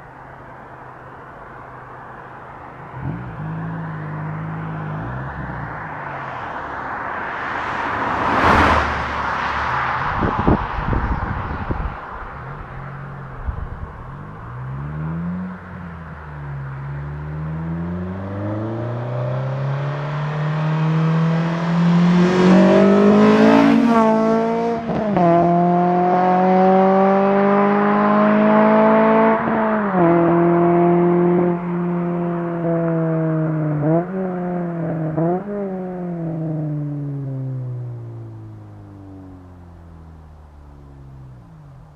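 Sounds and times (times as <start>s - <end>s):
car engine accelerating hard: 2.8s - 6.4s, 7.6s - 41.9s.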